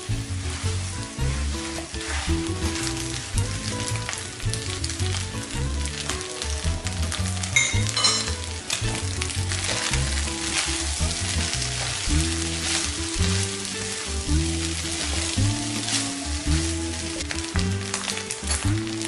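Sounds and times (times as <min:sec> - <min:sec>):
spatula scraping a wok: 0:00.0 - 0:05.2, 0:07.6 - 0:19.0
rice sizzling in a wok: 0:00.0 - 0:19.0
soft background music: 0:00.0 - 0:19.0.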